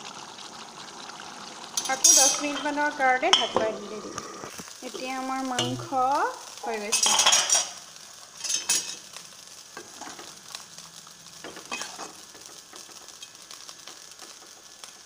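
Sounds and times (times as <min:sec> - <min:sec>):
curry sizzling in a pan: 0:00.0 - 0:15.0.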